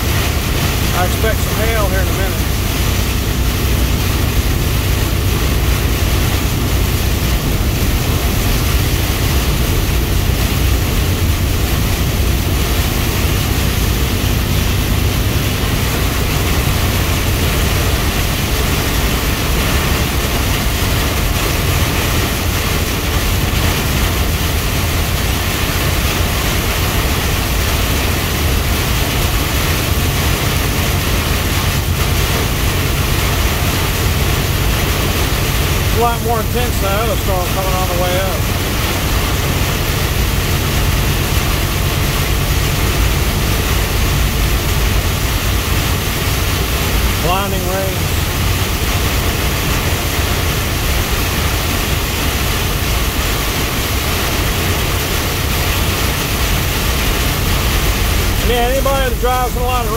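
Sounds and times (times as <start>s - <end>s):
heavy rain and road spray: 0.0s - 59.9s
low road and engine rumble: 0.0s - 59.9s.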